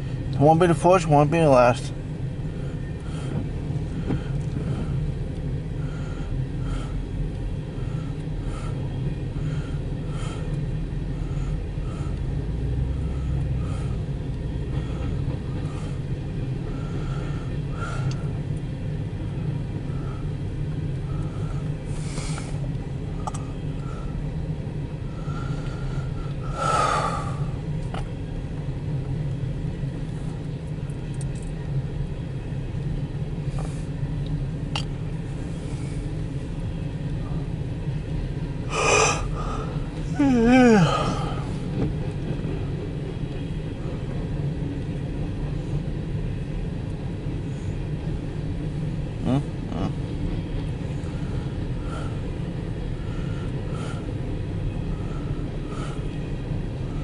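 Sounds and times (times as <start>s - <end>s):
low rumble in car cabin: 0.0s - 57.0s.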